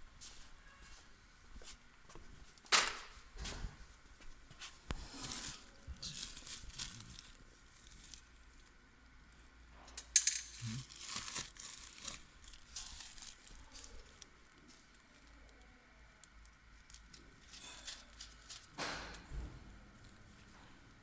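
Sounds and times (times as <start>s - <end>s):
rustling and handling noises: 0.0s - 21.0s.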